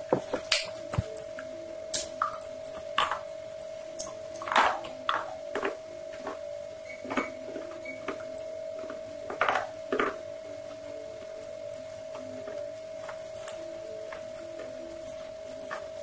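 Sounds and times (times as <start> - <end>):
crunchy chewing: 0.0 - 6.5, 7.1 - 16.0.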